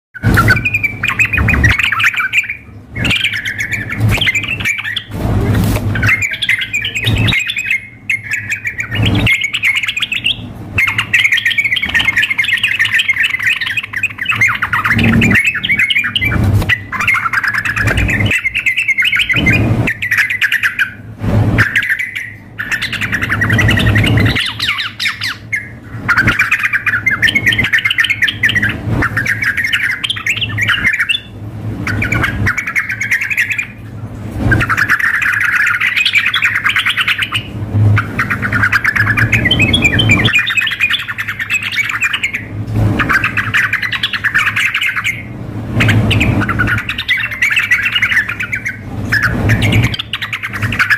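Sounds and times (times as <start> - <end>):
bulbuls singing and calling: 0.2 - 50.9.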